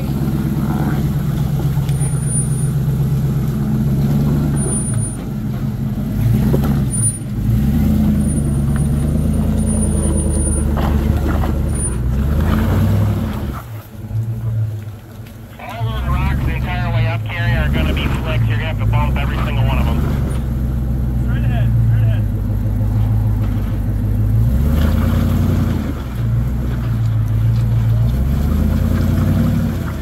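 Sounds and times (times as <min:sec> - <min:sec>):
engine revving under load: 0:00.0 - 0:13.8, 0:15.6 - 0:30.0.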